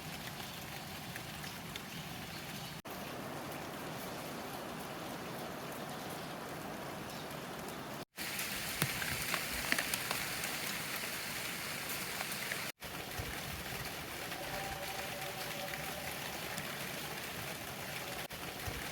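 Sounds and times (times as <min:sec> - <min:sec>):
heavy rain falling: 0:00.0 - 0:18.9.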